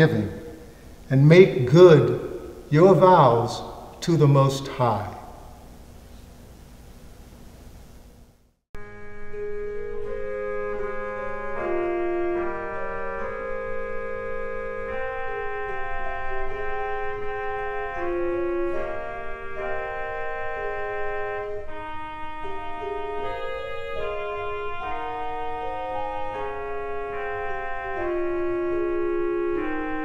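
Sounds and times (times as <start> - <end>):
organ playing sustained chords: 0.0 - 6.0, 8.8 - 30.0.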